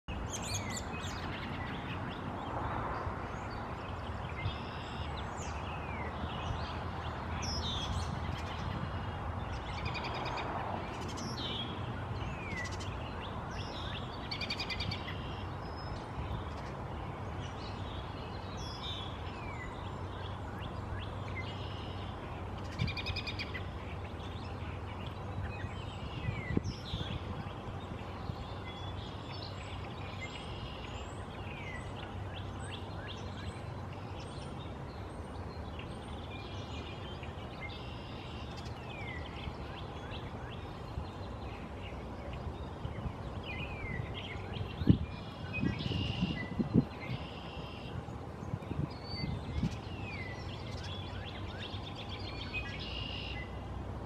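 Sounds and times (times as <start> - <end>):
wild birds chirping: 0.0 - 54.0.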